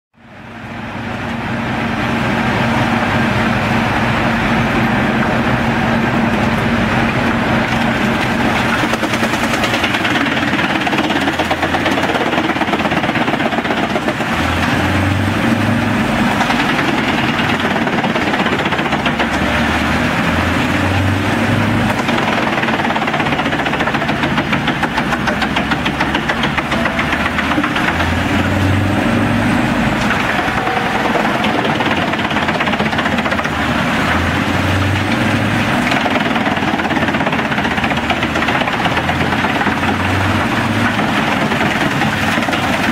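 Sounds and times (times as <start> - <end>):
diesel engine: 0.1 - 42.9
drum chipper running: 2.2 - 42.9.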